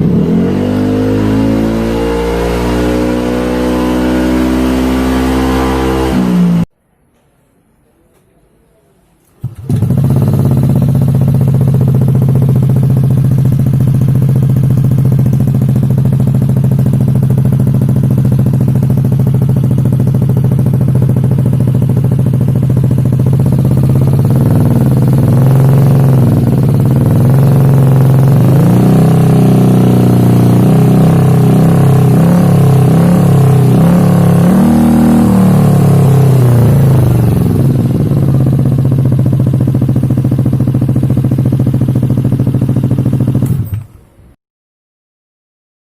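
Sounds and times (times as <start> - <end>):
scooter engine idling and revving: 0.0 - 6.7, 9.4 - 43.9.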